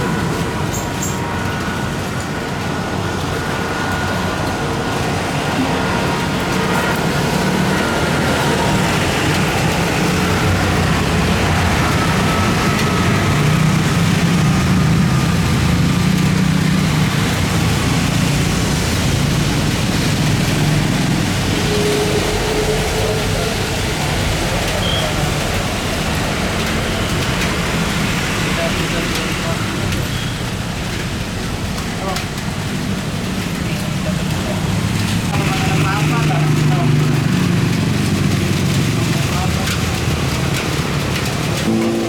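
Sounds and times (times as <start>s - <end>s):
jet airliner engines: 0.0s - 36.3s.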